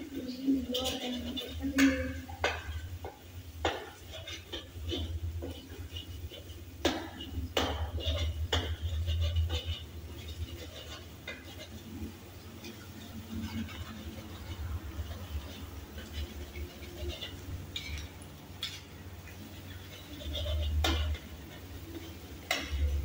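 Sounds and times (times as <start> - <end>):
metal spatula scraping a wok: 0.0 - 23.0.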